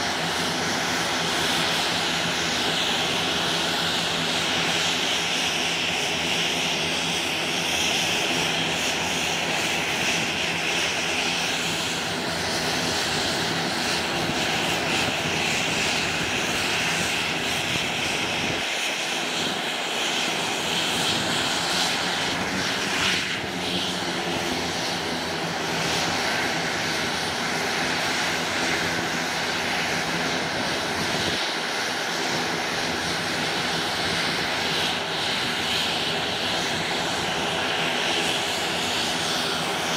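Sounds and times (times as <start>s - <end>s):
turboprop engines running: 0.0s - 39.9s.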